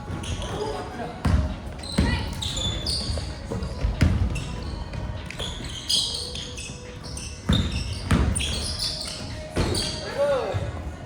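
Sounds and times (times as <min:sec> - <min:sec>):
shoe squeaks: 0:00.0 - 0:10.6
basketball bouncing on gym floor: 0:00.1 - 0:06.7, 0:07.3 - 0:10.0.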